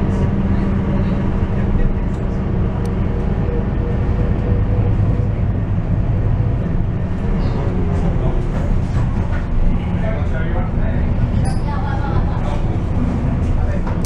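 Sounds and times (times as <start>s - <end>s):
bus engine drone: 0.0s - 14.0s
road noise: 0.0s - 14.0s.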